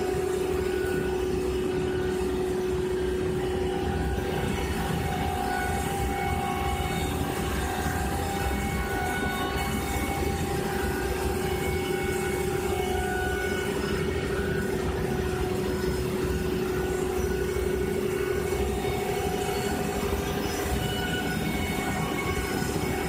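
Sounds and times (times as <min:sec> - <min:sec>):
router spindle running: 0:00.0 - 0:23.0.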